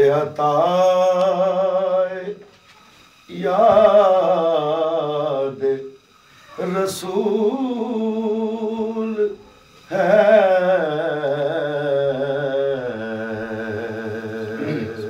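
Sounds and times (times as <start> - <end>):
man singing unaccompanied: 0.0 - 2.6, 3.2 - 15.0.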